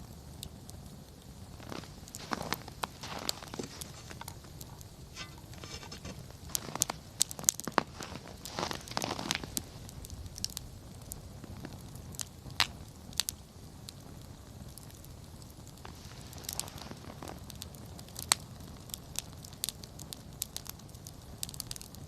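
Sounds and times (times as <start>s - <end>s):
campfire crackling: 0.0s - 22.0s
sharp fire pops: 0.4s - 22.0s.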